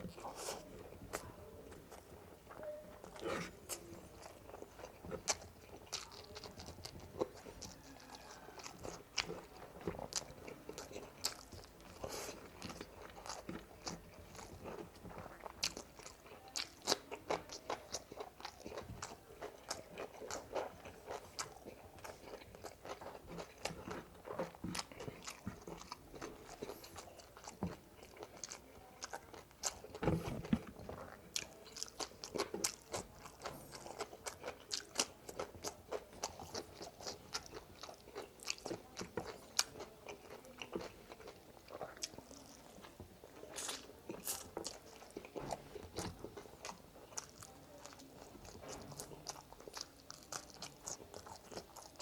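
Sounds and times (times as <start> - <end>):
person chewing crunchy food: 0.0 - 52.0.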